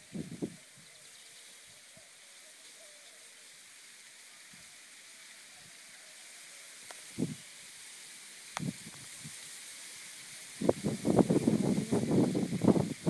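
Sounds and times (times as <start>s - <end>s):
faint steady outdoor hiss: 0.0s - 13.0s.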